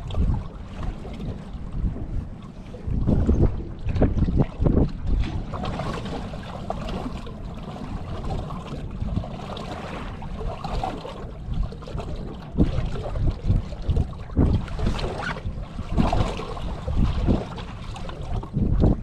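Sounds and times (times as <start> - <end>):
water lapping against boat hull: 0.0 - 19.0
wind rumble on microphone: 0.0 - 19.0.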